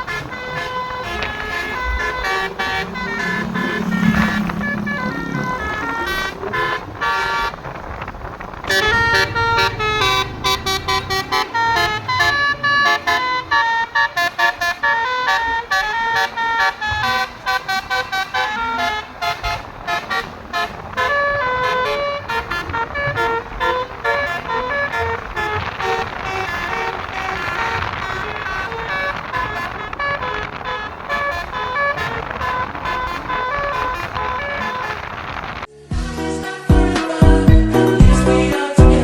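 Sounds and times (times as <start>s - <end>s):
bus horn playing melody: 0.0s - 35.7s.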